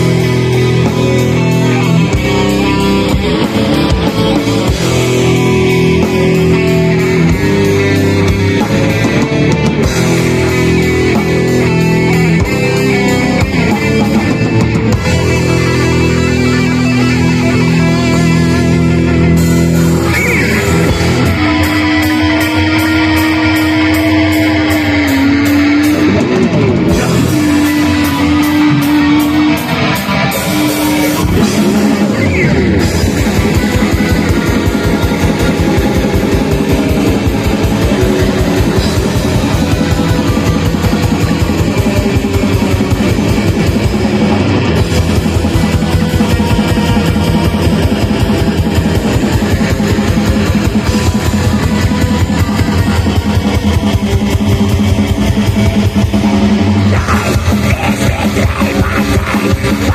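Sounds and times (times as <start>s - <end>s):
fast drumming: 0.0s - 59.9s
held guitar lead note: 0.0s - 59.9s
metal band playing: 0.0s - 59.9s.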